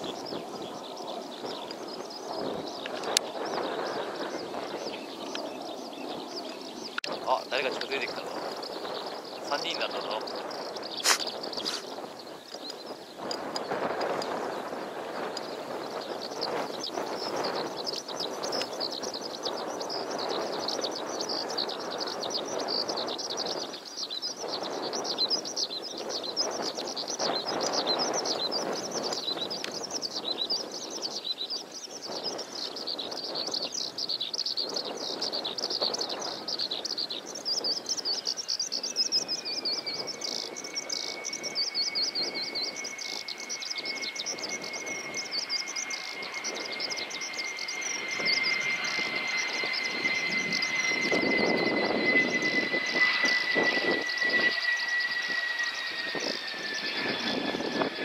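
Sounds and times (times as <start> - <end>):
engine whine: 0.0 - 58.0
jet engine rushing: 0.0 - 58.0
small birds chirping: 0.0 - 58.0.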